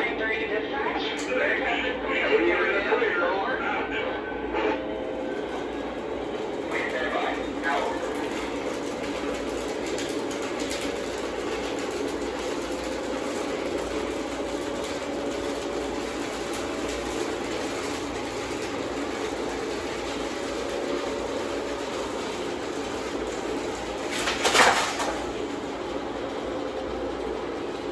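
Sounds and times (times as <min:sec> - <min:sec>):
model trains rumbling on track: 0:01.6 - 0:27.9.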